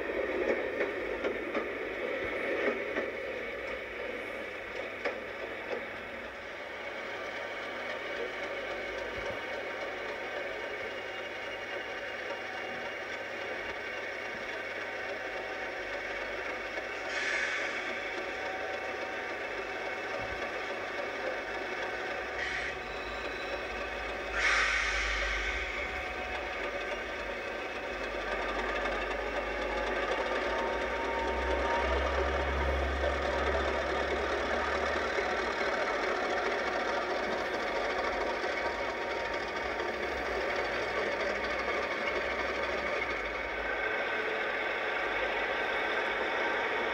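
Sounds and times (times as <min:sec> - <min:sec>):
diesel locomotive engine running: 0:00.0 - 0:46.9.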